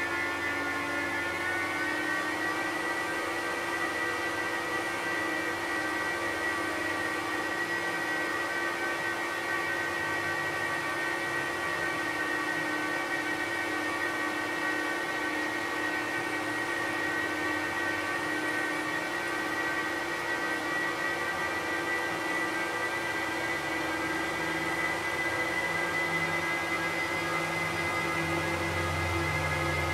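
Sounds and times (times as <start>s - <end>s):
server cooling fans: 0.0s - 29.9s.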